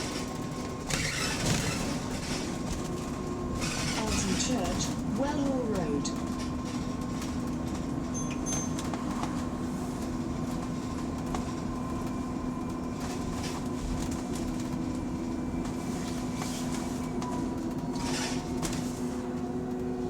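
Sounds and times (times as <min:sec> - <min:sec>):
bus road rumble: 0:00.0 - 0:20.0.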